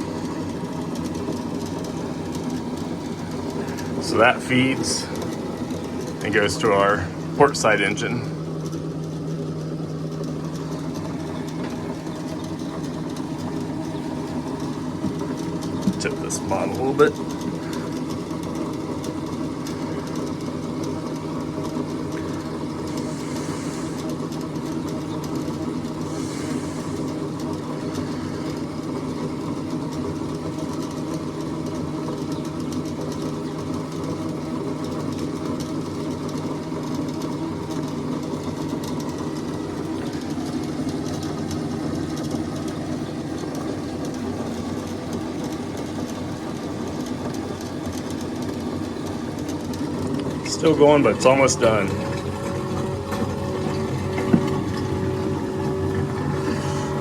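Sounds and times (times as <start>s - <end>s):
electric pump humming: 0.0s - 57.0s.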